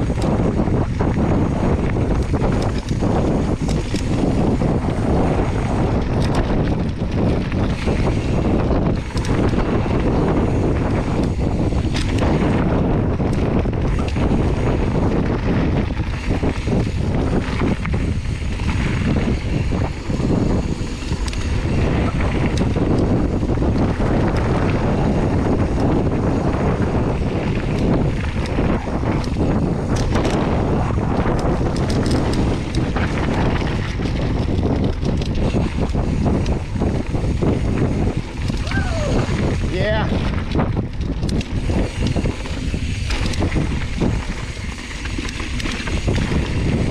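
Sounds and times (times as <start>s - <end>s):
bike rattling over bumps: 0.0s - 46.9s
bike tyres rumbling on dirt: 0.0s - 46.9s
sharp clicks and clatters: 0.0s - 46.9s
wind buffeting microphone: 0.0s - 46.9s.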